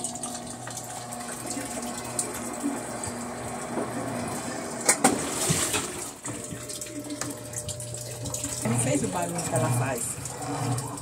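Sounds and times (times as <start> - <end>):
water hissing into washing machine: 0.0 - 11.0.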